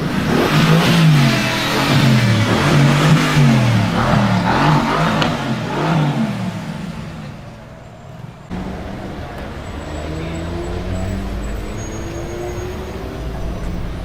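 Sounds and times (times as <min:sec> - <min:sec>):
car engine revving: 0:00.0 - 0:14.0
car engine running steadily: 0:00.0 - 0:14.0.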